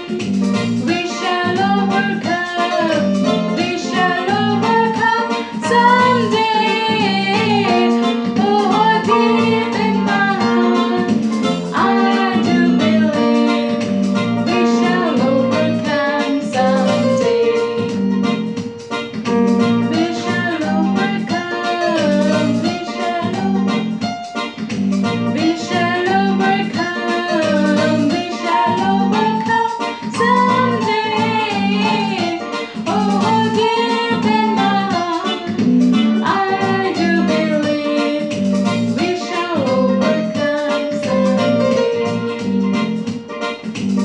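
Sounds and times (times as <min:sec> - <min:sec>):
electronic keyboard accompaniment: 0:00.0 - 0:44.0
woman singing: 0:00.8 - 0:13.8, 0:14.4 - 0:18.0, 0:19.9 - 0:23.7, 0:25.3 - 0:42.0.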